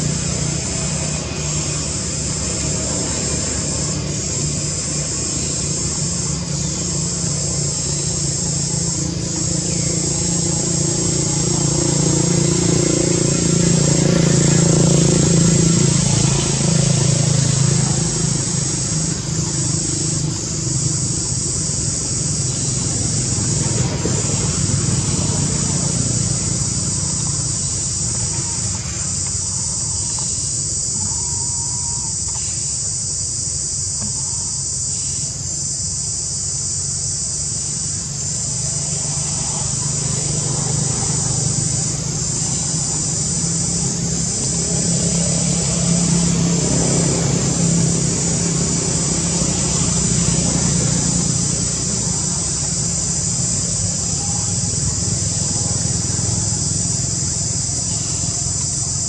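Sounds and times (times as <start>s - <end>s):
high-pitched insect drone: 0.0s - 59.0s
vehicle engine hum passing: 0.0s - 59.0s.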